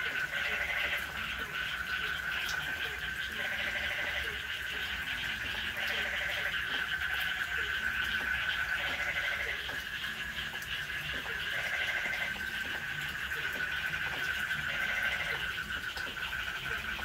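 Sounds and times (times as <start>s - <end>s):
rattling frog calls: 0.0s - 17.0s.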